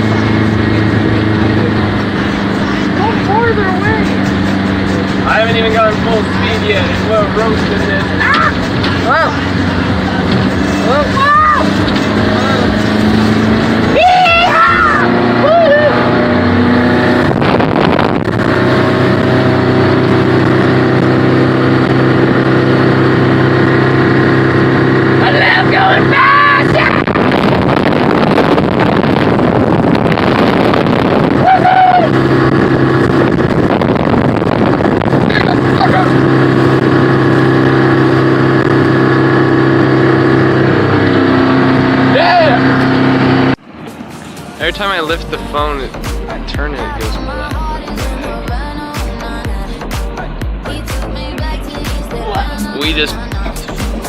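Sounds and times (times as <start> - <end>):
motorboat engine running: 0.0 - 54.0
rush of noise: 0.0 - 54.0.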